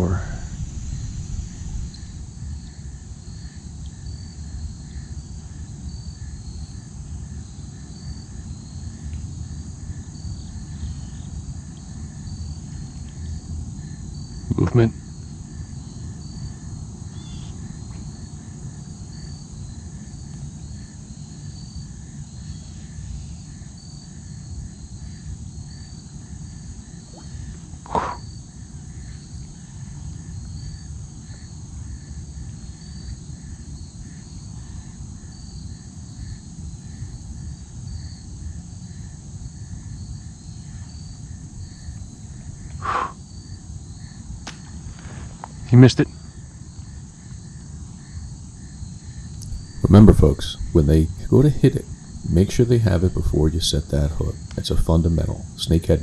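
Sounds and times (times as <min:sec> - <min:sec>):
low background hum: 0:00.0 - 0:35.2, 0:36.0 - 0:56.0
insects chirping: 0:00.0 - 0:56.0.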